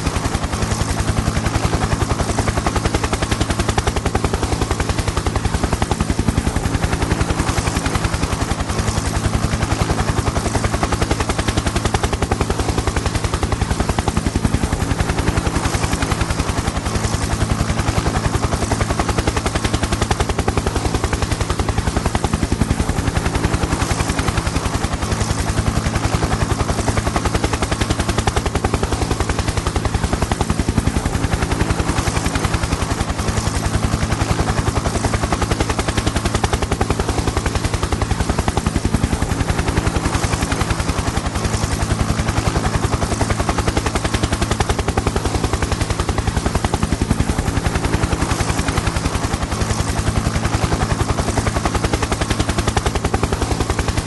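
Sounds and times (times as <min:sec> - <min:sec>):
helicopter engine drone: 0:00.0 - 0:54.0
helicopter rotor chopping: 0:00.0 - 0:54.0.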